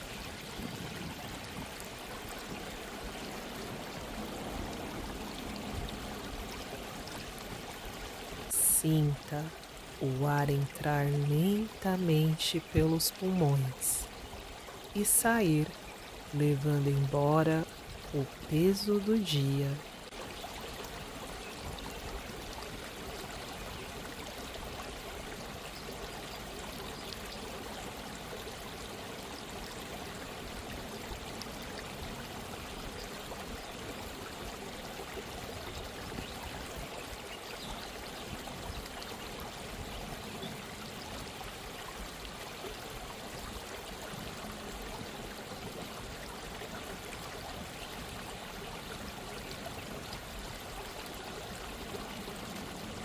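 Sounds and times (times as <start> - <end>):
stream of running water: 0.0 - 53.0.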